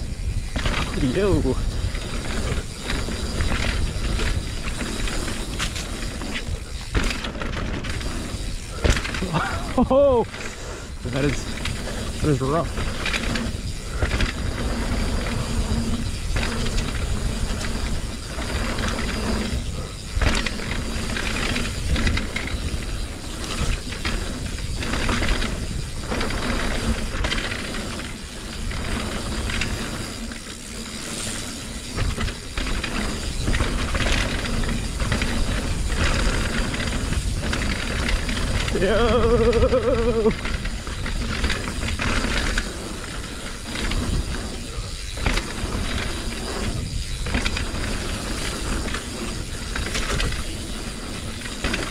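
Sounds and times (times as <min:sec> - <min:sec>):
bike frame knocking and rattling: 0:00.0 - 0:51.9
bike tyres rumbling on trail: 0:00.0 - 0:51.9.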